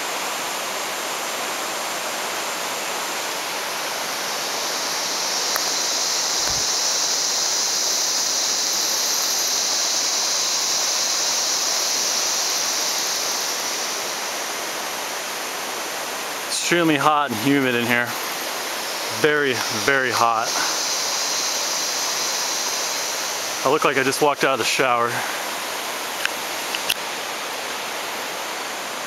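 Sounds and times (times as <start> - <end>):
high water hiss: 0.0 - 29.0
river rapids rushing over rocks: 0.0 - 29.0.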